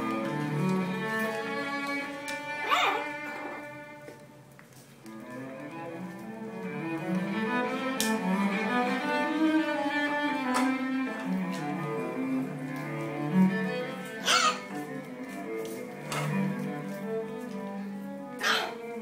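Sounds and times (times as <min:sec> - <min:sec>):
bowed strings music: 0:00.0 - 0:19.0.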